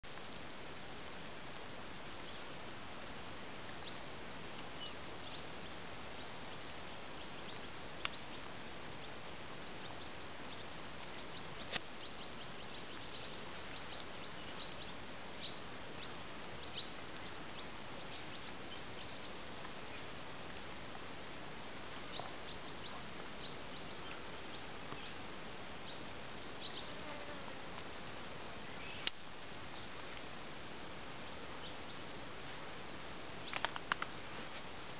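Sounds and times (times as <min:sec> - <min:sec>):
steady outdoor hiss: 0:00.0 - 0:34.9
small birds chirping: 0:02.1 - 0:02.6, 0:03.7 - 0:21.2, 0:21.8 - 0:30.3, 0:31.1 - 0:32.6, 0:33.3 - 0:34.7.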